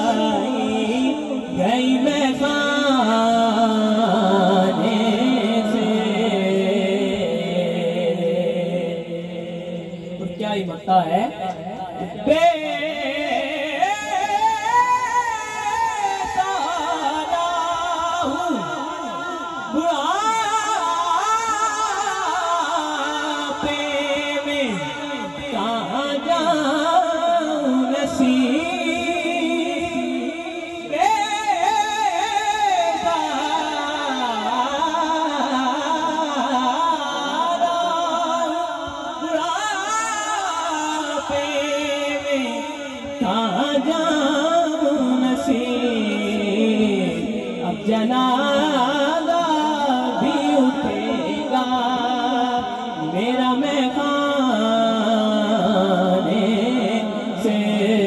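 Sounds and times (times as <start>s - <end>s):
boy singing into microphone: 0.0s - 9.1s, 11.9s - 58.0s.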